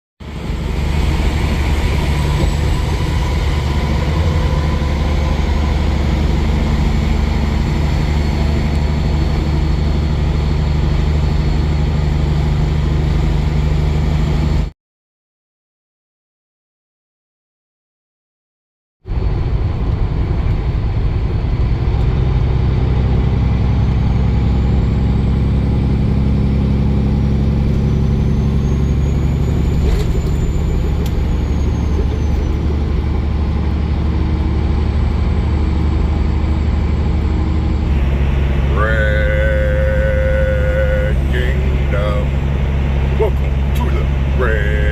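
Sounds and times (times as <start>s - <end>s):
higher-pitched hum: 0.2s - 14.6s, 21.5s - 44.9s
road noise: 0.2s - 14.7s, 19.1s - 44.9s
truck engine rumble: 0.2s - 14.7s, 19.1s - 44.9s.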